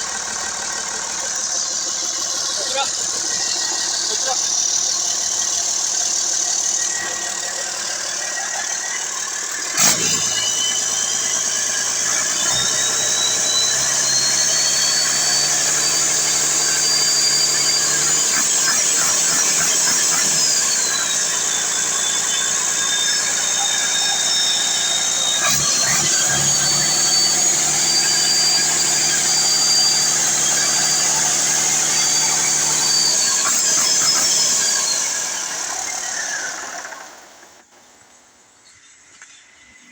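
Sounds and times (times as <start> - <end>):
diesel engine revving with whine: 0.0 - 37.7.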